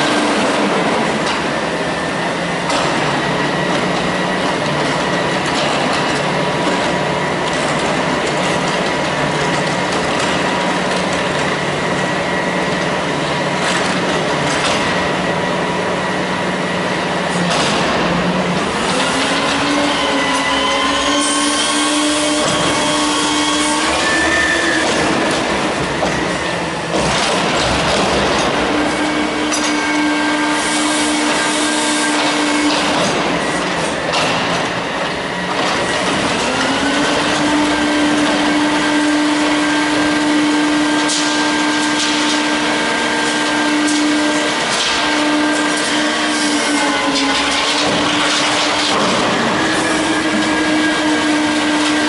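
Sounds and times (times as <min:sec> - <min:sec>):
hydraulic whining hum: 0:00.0 - 0:52.0.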